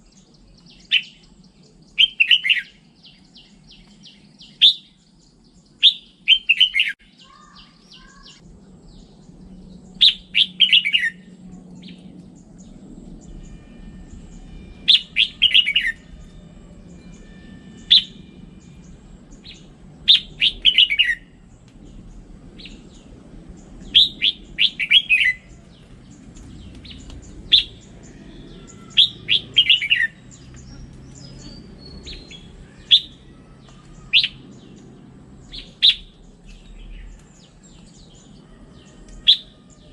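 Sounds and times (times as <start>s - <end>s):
bulbul singing: 0.0s - 39.9s
faint low hum: 7.1s - 39.9s.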